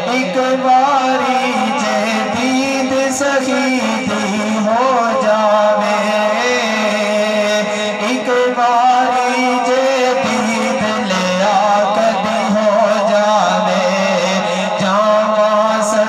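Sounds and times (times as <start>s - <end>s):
men singing devotional song: 0.0s - 16.0s.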